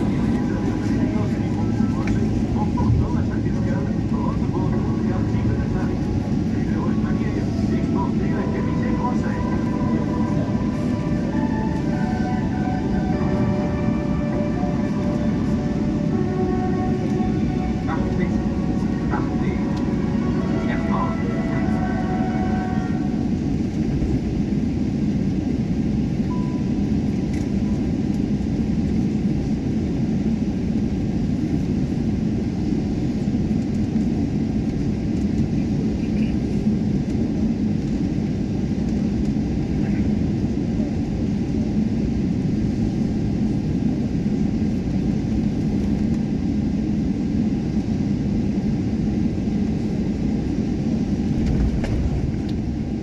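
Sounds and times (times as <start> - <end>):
airplane cabin low rumble: 0.0 - 53.0.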